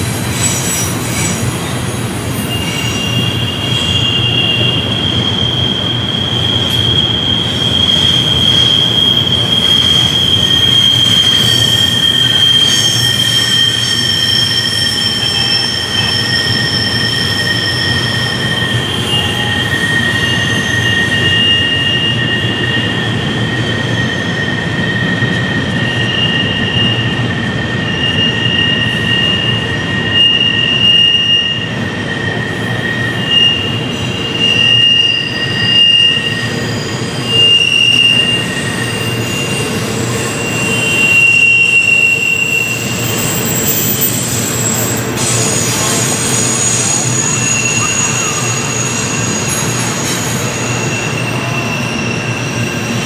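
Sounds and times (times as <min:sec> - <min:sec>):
low rumble of train cars: 0:00.0 - 0:53.0
wheel squeal on curve: 0:00.0 - 0:53.0.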